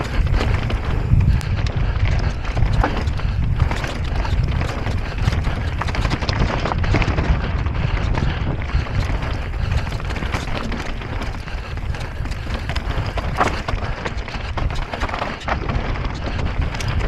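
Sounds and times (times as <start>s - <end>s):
bike rattling over rocks: 0.0s - 17.0s.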